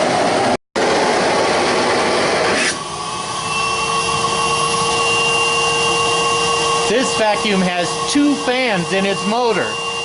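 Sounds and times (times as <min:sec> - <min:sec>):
vacuum cleaner air rush: 0:00.0 - 0:10.0
vacuum motor whine: 0:00.0 - 0:10.0.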